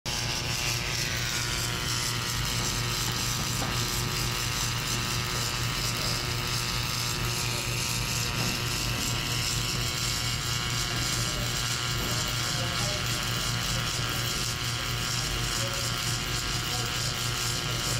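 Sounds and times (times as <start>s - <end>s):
welding hiss: 0.1s - 17.9s.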